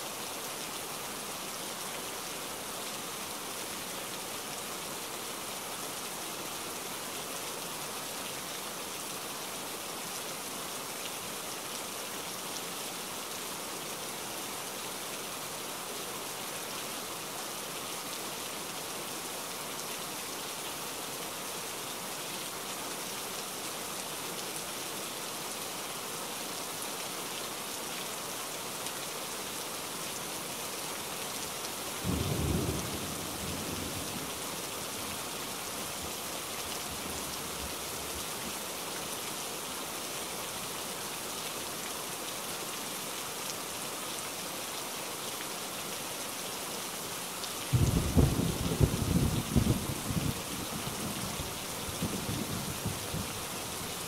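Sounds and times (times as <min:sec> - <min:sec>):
rain splashing on paving: 0:00.0 - 0:54.0.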